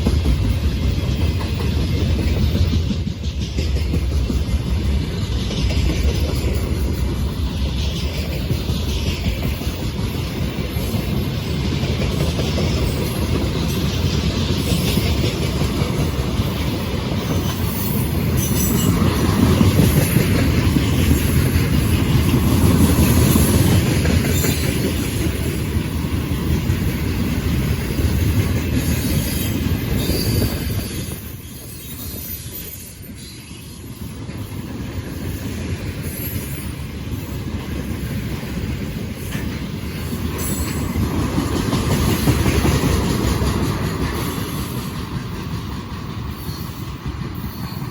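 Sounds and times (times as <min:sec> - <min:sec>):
freight train wagons rolling: 0:00.0 - 0:47.9.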